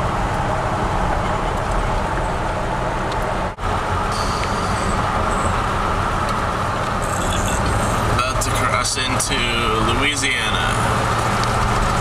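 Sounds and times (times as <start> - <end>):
vehicle road noise: 0.0 - 12.0.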